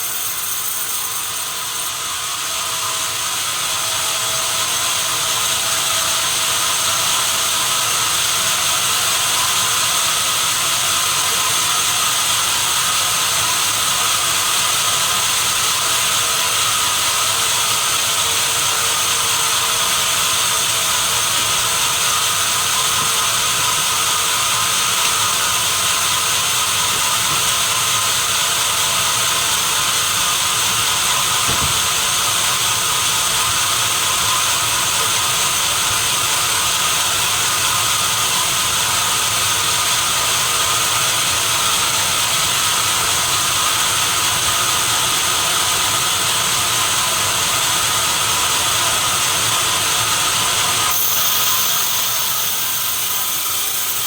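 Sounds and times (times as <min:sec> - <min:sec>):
sawmill saw whining: 0:00.0 - 0:54.0.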